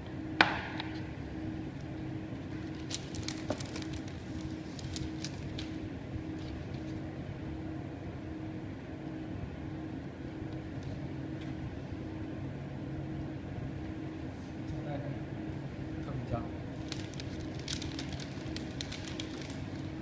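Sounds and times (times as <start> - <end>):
machine hum with two tones: 0.0 - 20.0.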